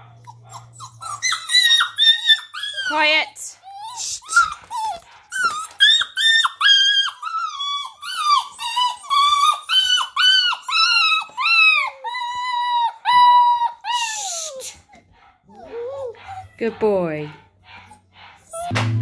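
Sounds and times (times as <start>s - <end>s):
puppy yelping and howling: 0.0s - 14.9s, 15.5s - 16.7s, 17.7s - 18.8s.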